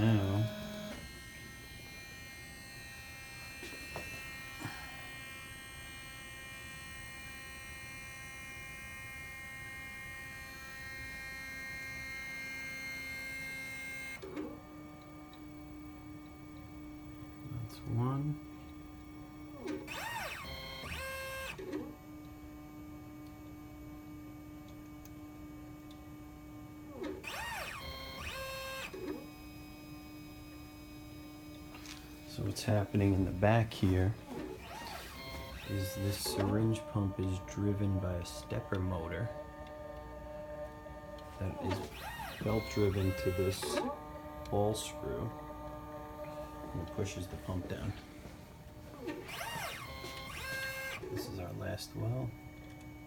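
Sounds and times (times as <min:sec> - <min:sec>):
low steady motor hum: 0:00.0 - 0:53.0
stepper motors whining: 0:00.0 - 0:53.0.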